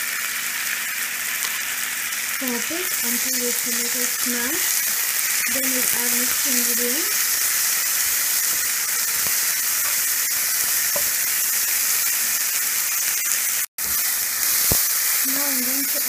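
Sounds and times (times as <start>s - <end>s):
vegetables sizzling in hot oil: 0.0s - 16.0s
spatula stirring with crackling: 2.4s - 16.0s.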